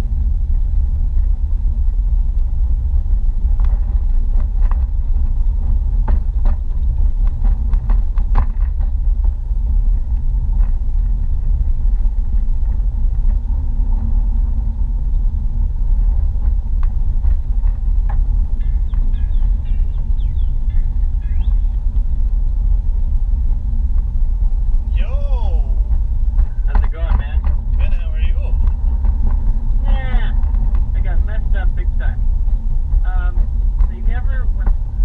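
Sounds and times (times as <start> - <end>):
car driving rumble from inside: 0.0 - 35.0.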